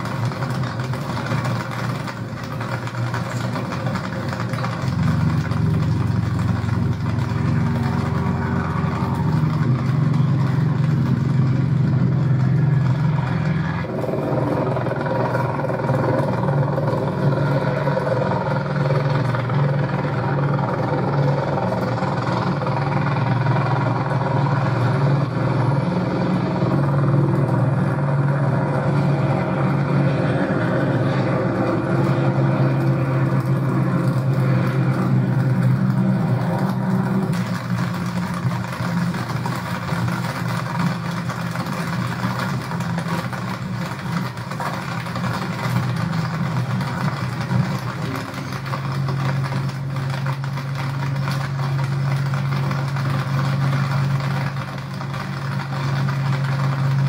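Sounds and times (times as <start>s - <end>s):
low engine drone: 0.0s - 57.0s.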